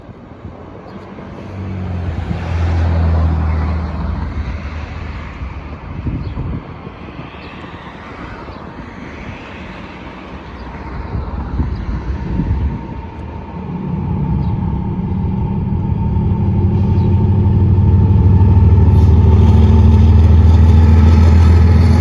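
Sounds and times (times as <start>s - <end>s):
diesel locomotive engine drone: 0.0s - 22.0s
train rolling rush: 0.0s - 22.0s.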